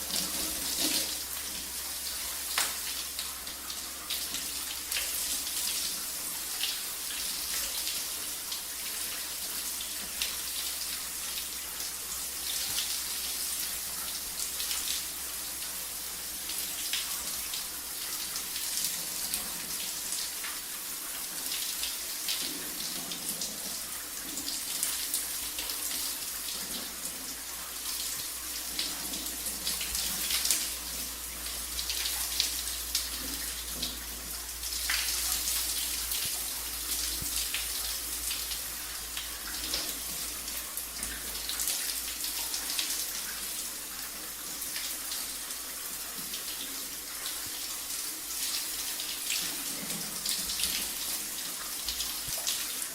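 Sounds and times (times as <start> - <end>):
shower water running: 0.0 - 52.9
water spattering on surfaces: 0.0 - 52.9.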